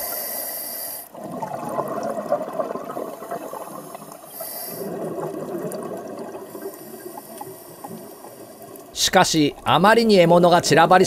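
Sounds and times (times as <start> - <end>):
underwater crackling and bubbling: 0.0 - 11.0.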